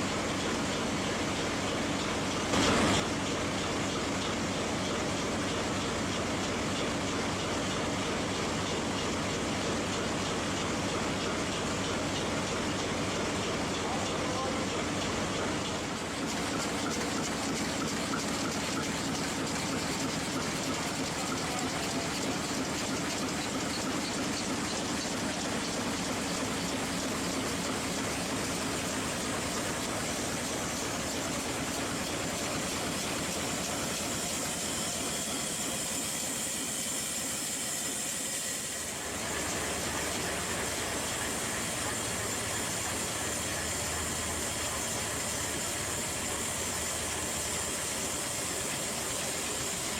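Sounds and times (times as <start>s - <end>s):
diesel engine running: 0.0s - 35.8s, 37.1s - 49.9s.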